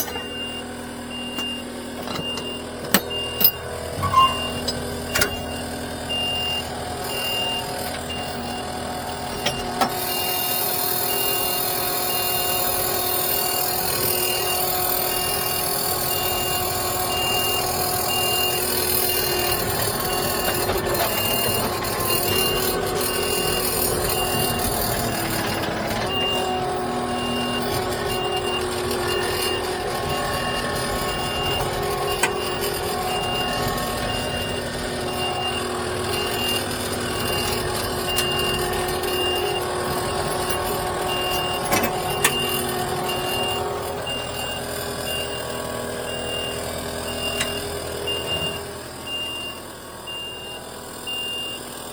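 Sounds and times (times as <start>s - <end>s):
diesel engine running: 0.0s - 51.9s
reversing alarm beeping: 0.0s - 51.9s.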